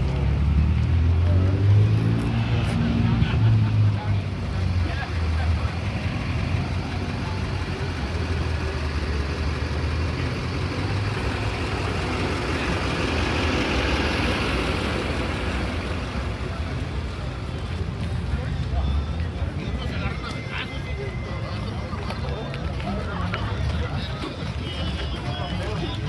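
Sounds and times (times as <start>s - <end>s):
noisy outdoor background: 0.0s - 26.0s
vehicle engine idling: 0.0s - 26.0s.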